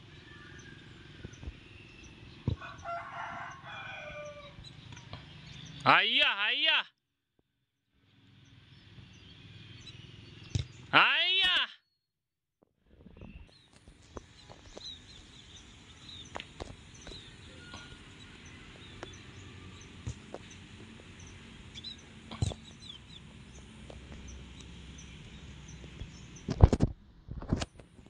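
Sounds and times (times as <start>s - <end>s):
birds chirping: 0.0s - 6.8s, 8.2s - 11.6s, 13.0s - 26.7s.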